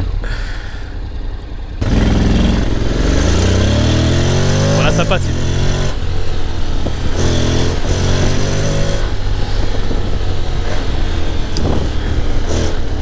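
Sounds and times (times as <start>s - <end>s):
motorcycle engine pulling hard: 1.3s - 13.0s.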